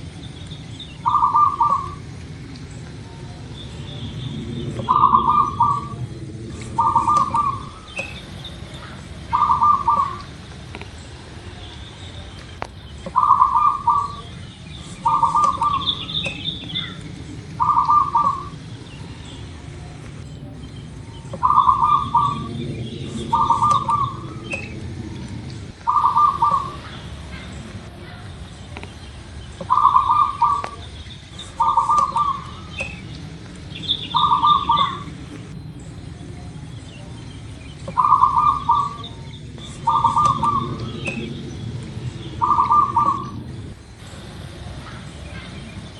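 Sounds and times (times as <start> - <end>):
small birds chirping: 0.0 - 45.9
dove cooing: 1.0 - 10.9, 13.0 - 36.8, 37.8 - 45.9.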